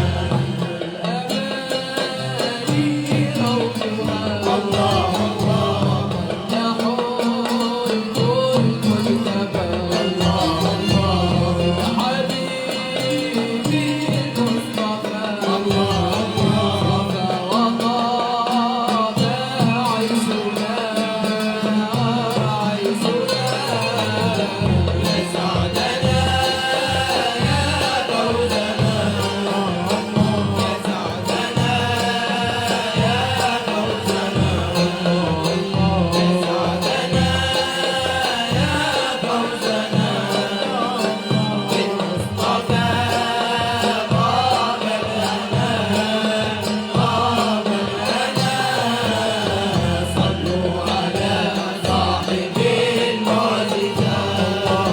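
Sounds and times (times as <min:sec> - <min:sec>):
person singing: 0:00.0 - 0:54.9
repeating drum beat: 0:00.0 - 0:54.9.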